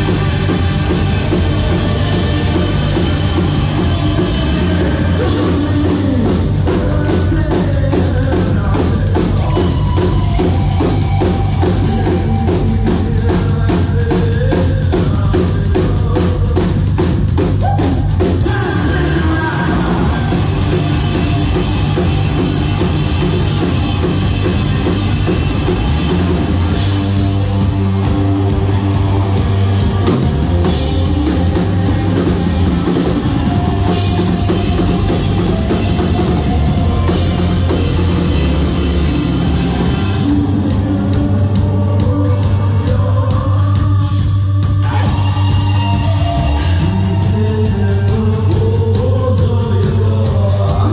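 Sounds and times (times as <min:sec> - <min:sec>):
fast drum beat: 0:00.0 - 0:50.9
rock band playing live: 0:00.0 - 0:50.9.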